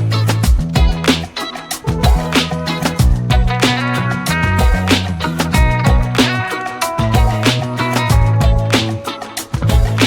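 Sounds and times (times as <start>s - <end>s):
funk groove with bass and guitar: 0.0s - 10.0s.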